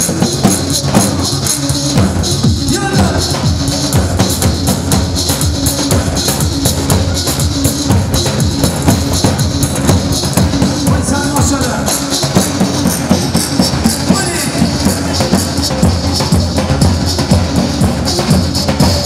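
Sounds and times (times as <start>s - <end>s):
driving drum beat: 0.0s - 19.0s.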